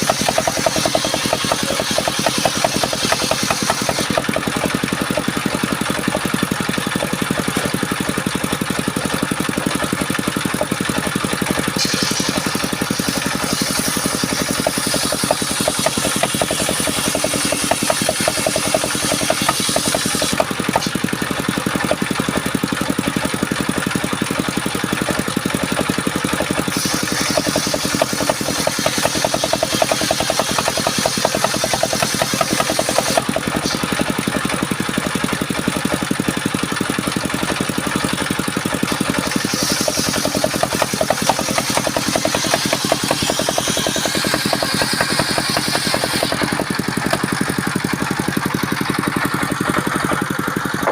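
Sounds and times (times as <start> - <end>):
saw engine running: 0.0 - 50.9.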